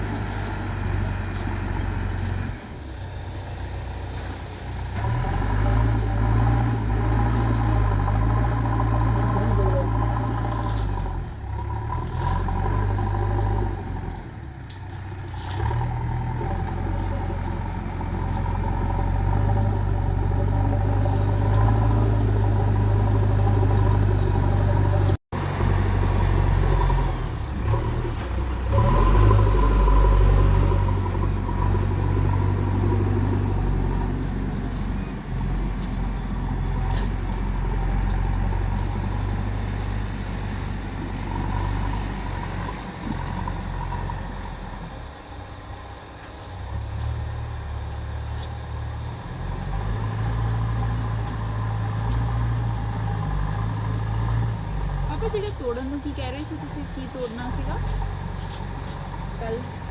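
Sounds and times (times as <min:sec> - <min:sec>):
digger diesel engine running: 0:00.0 - 0:59.9.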